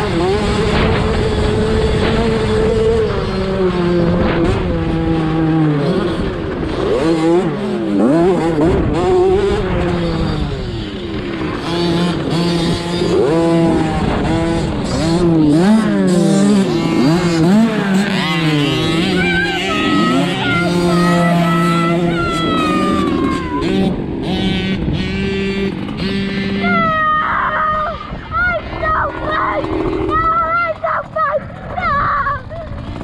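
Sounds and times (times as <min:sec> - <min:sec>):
two-stroke minibike engine revving: 0:00.0 - 0:33.0.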